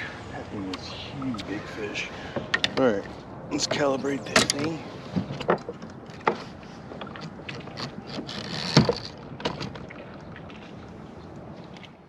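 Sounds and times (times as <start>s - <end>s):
water rushing: 0.0s - 11.8s.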